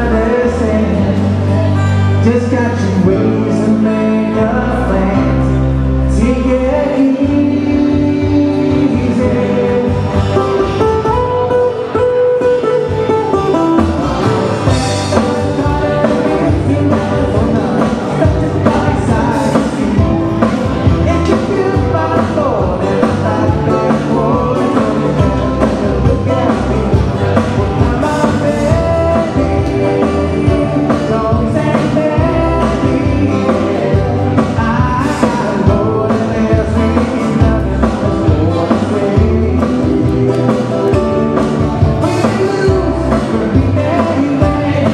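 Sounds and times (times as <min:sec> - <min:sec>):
bass: 0:00.0 - 0:44.9
guitar: 0:00.0 - 0:44.9
person singing: 0:00.0 - 0:44.9.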